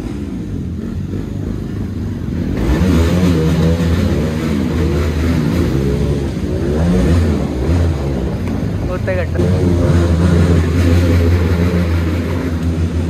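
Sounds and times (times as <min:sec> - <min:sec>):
motorcycle engine revving: 0:00.0 - 0:13.0
wind and road noise: 0:00.0 - 0:13.0.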